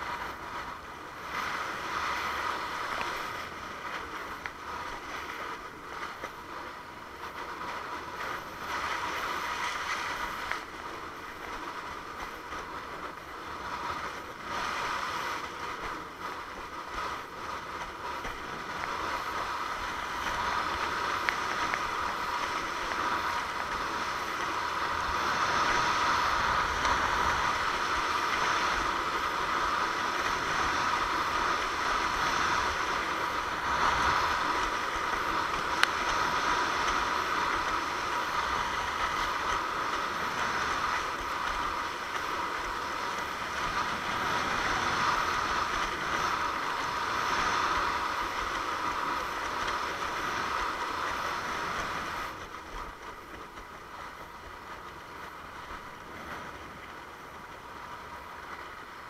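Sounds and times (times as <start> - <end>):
water rushing along hull: 0.0 - 59.0.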